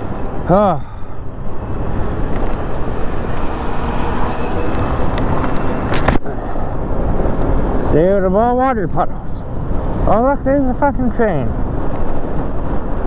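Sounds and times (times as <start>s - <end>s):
wind rush on microphone: 1.0s - 13.0s.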